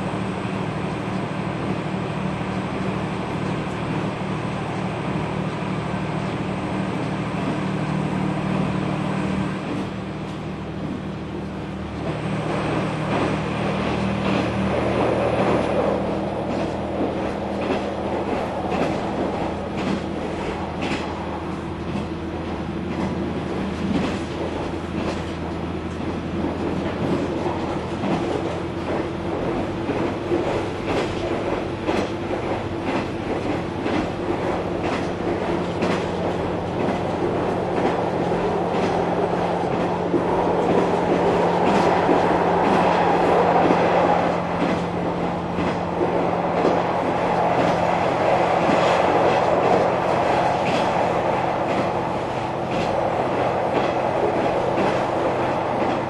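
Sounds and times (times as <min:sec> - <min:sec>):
wheels running on rails: 0:00.0 - 0:56.0
rail joint clicks: 0:00.2 - 0:56.0.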